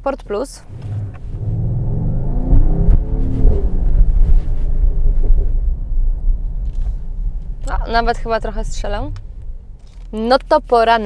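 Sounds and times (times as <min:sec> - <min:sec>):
car engine accelerating: 0:00.5 - 0:10.9.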